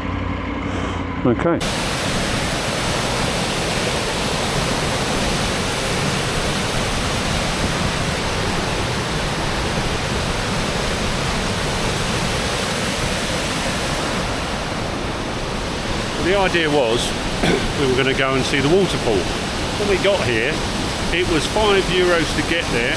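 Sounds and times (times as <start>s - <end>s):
waterfall roaring: 1.6s - 22.9s.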